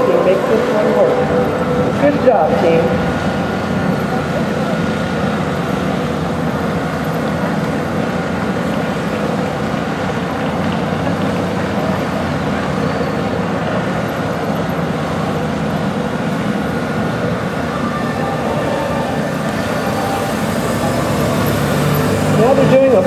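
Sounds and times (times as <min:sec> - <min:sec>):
motorcycles engines droning: 0:00.0 - 0:23.0.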